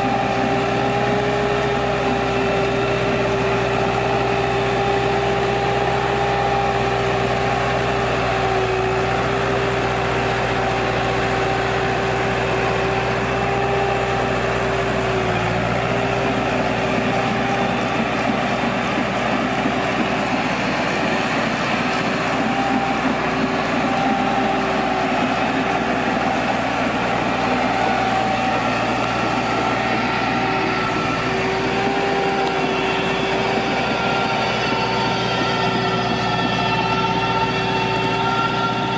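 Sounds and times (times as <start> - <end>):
hydraulic machine whine: 0.0 - 38.9
tractor engine running: 0.0 - 38.9.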